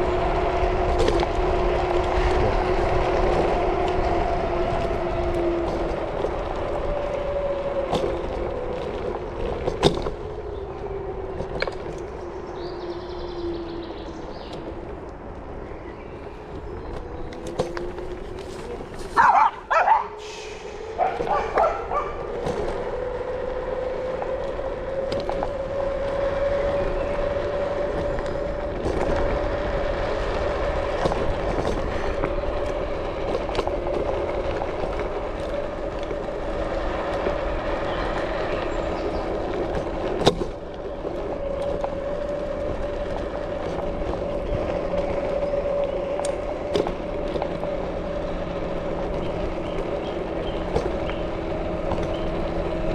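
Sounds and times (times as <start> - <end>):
electric bike motor whining: 0.0 - 19.2, 20.1 - 52.9
tyres rumbling on dirt trail: 0.0 - 52.9.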